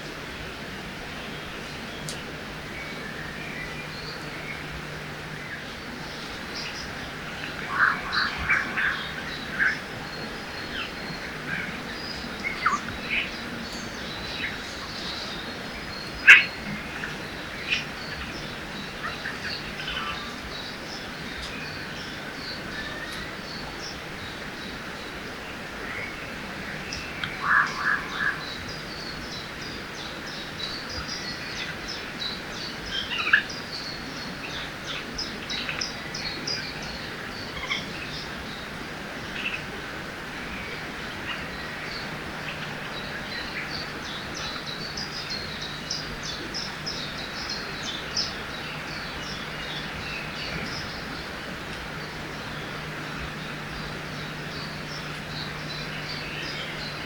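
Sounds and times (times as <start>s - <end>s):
flowing river water: 0.0s - 57.0s
birds chirping: 0.7s - 57.0s.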